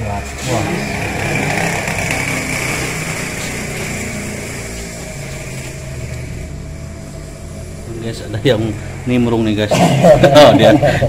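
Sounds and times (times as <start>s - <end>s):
high whine: 0.0s - 11.0s
small engine running: 0.0s - 11.0s.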